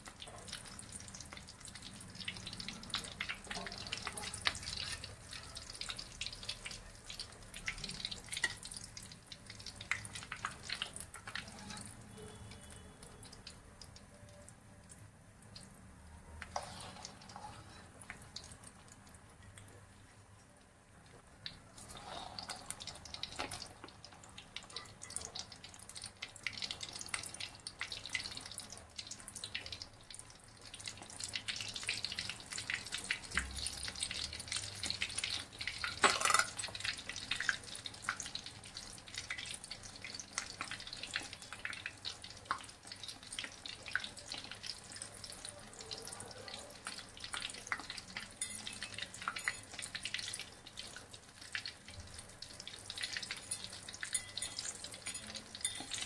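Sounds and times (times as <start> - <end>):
bread frying in hot oil: 0.0 - 56.0.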